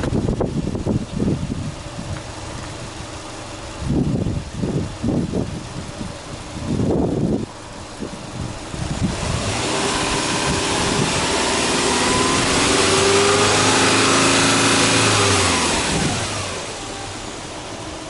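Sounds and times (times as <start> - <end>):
car engine revving: 2.2 - 18.0.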